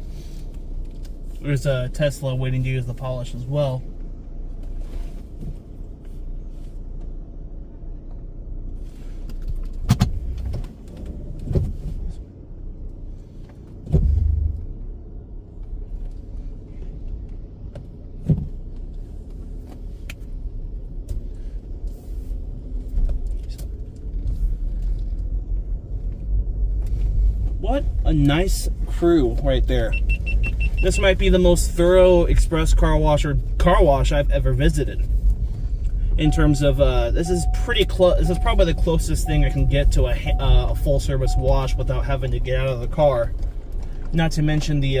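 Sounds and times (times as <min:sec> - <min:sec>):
car rumble from inside cabin: 0:00.0 - 0:45.0.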